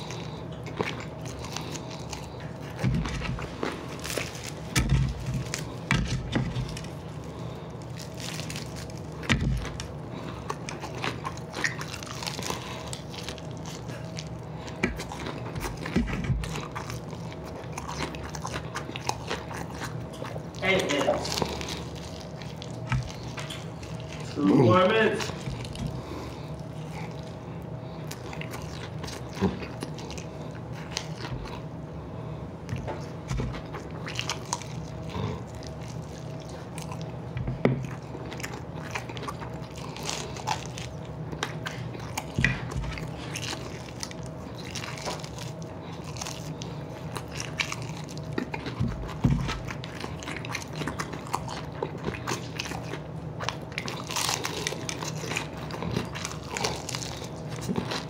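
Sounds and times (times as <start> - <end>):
faint steady hum: 0.0 - 58.0
person chewing chicken wings: 0.0 - 58.0.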